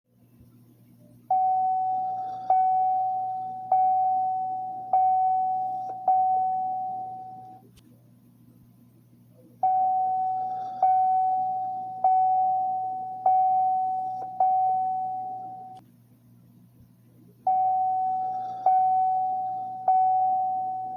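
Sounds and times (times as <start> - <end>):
faint low hum: 0.1 - 20.9.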